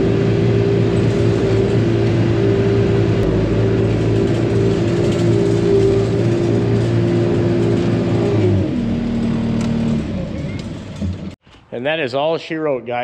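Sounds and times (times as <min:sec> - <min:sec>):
farm machine engine running: 0:00.0 - 0:11.4.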